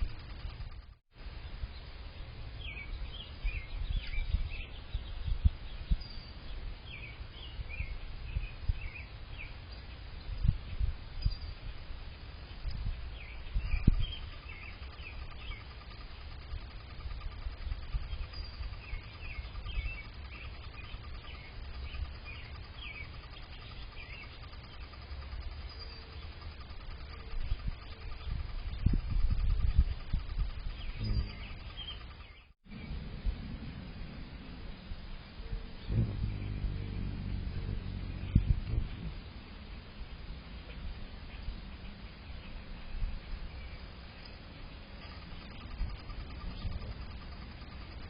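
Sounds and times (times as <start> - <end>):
songbirds chirping: 0.0 - 33.1, 35.8 - 40.0, 40.7 - 48.0
constant low rumble: 0.0 - 48.0.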